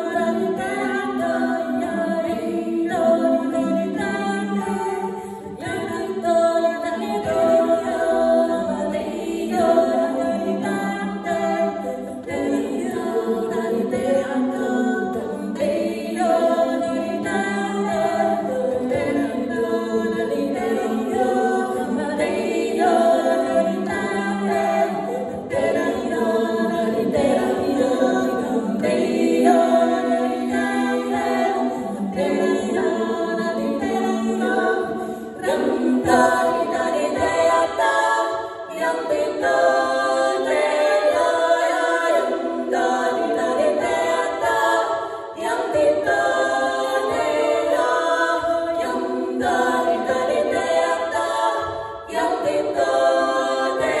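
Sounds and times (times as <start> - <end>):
women singing a cappella: 0.0 - 54.0.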